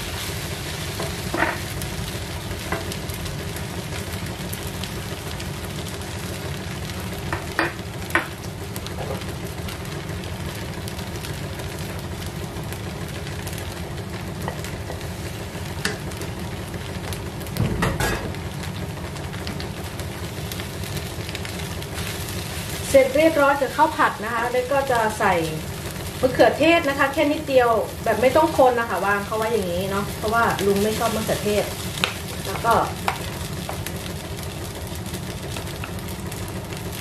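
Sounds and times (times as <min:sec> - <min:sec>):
rice sizzling in a frying pan: 0:00.0 - 0:37.0.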